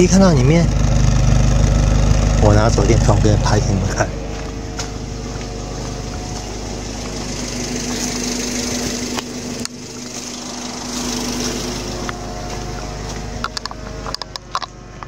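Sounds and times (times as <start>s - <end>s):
car engine idling: 0.0s - 15.0s
high steady hum: 0.0s - 15.0s.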